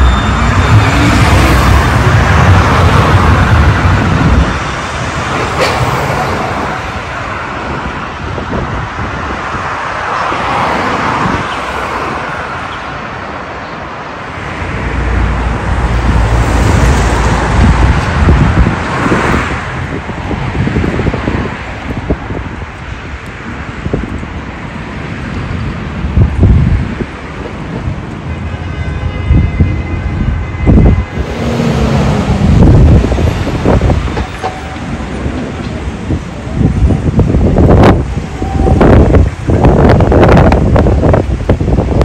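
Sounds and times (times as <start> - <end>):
street traffic rumbling: 0.0 - 42.0.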